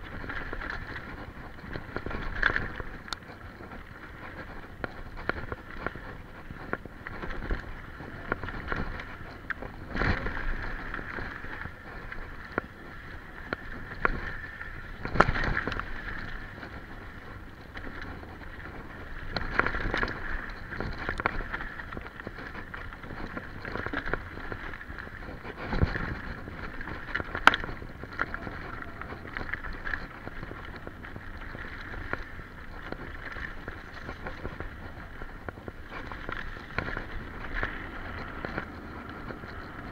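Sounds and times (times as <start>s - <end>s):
bike frame and chain rattling: 0.0s - 39.9s
tyres rushing on dirt: 0.0s - 39.9s.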